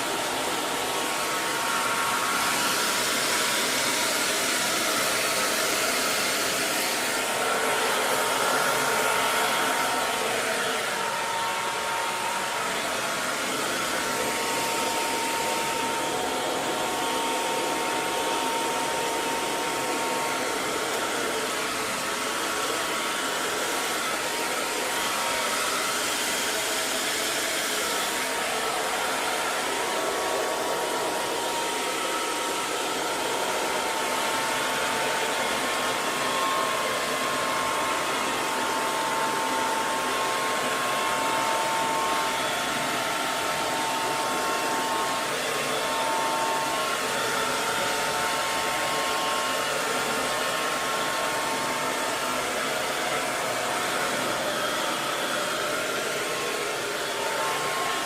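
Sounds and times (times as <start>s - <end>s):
hair dryer blowing air: 0.0s - 58.0s.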